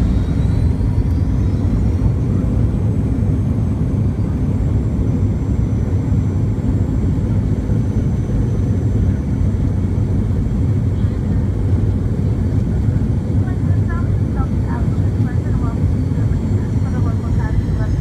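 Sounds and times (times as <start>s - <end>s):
aircraft cabin rumble: 0.0s - 18.0s
high jet engine whine: 0.0s - 18.0s.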